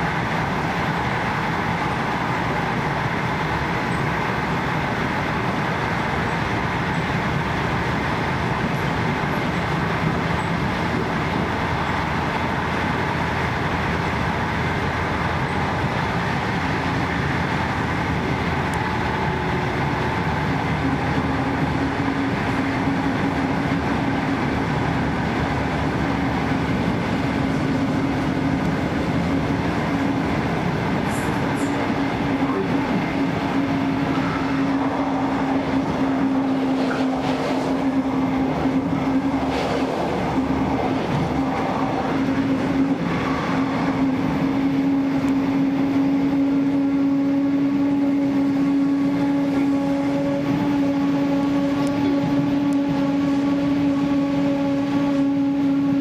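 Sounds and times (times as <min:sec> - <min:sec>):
rushing air: 0:00.0 - 0:56.0
wheels rumbling on rail: 0:00.0 - 0:56.0.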